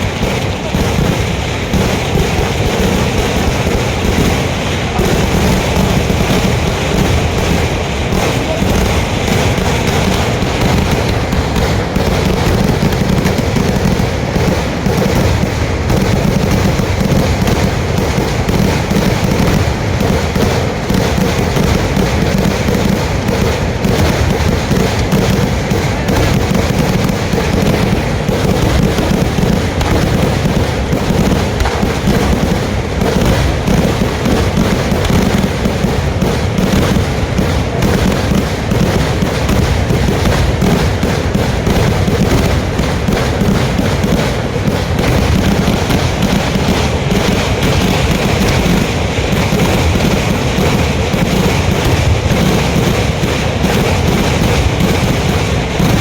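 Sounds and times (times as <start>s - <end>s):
fireworks cracking and banging: 0.0s - 56.0s.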